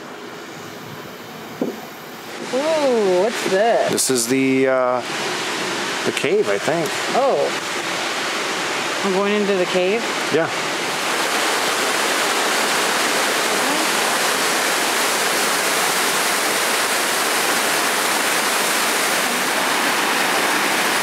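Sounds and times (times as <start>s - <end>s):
waterfall rushing: 2.1s - 21.0s.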